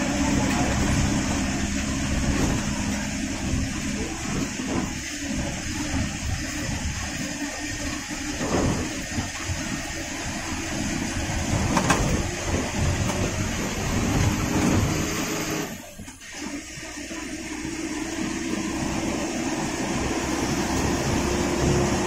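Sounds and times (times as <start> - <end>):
bus engine rumble: 0.0 - 22.0
road and wind noise: 0.0 - 22.0.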